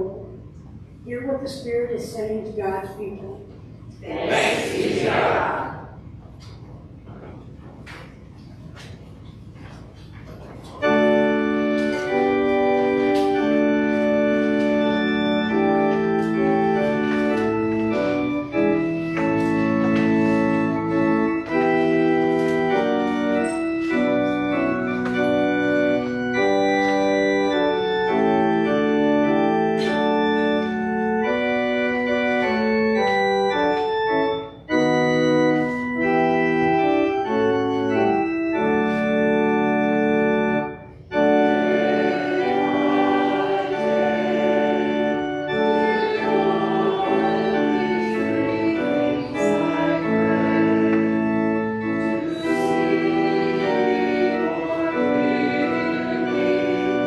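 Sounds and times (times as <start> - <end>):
church organ playing a hymn: 0.0 - 0.5, 7.9 - 57.0
congregation singing: 4.0 - 6.0, 10.8 - 57.0.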